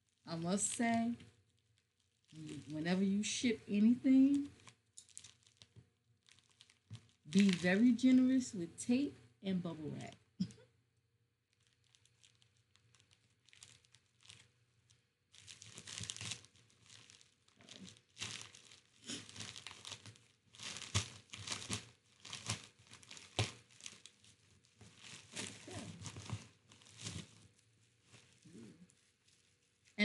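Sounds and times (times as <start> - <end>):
packing materials crinkling and tearing: 0.0 - 8.4, 11.5 - 30.0.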